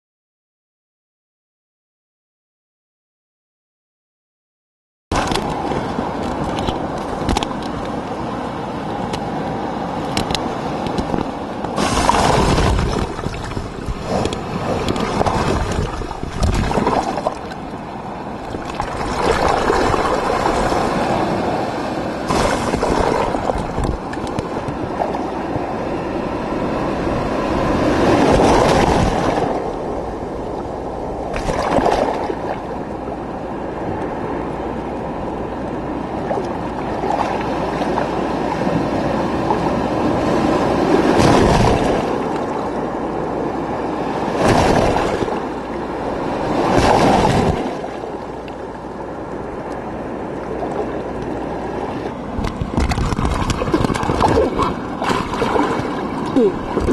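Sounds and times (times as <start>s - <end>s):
ocean surf sloshing: 5.1s - 56.9s
waves breaking: 5.1s - 56.9s.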